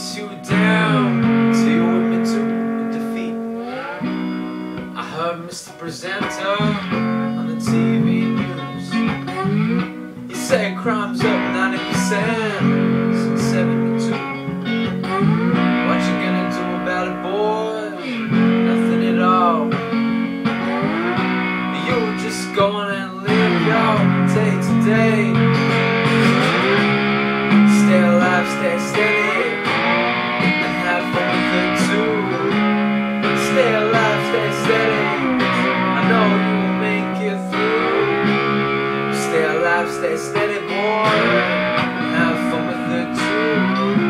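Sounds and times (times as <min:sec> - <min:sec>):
lap-steel electric guitar solo: 0:00.0 - 0:44.0.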